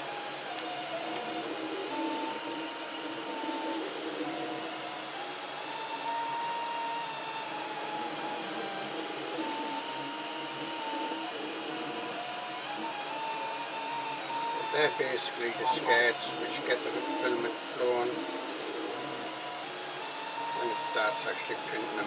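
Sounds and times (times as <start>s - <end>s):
steady hiss: 0.0s - 22.0s
stepper motors whining: 0.0s - 22.0s.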